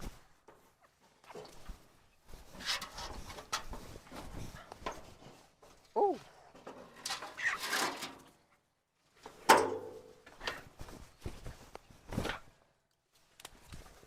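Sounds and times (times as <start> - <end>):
rustles: 0.0 - 14.0.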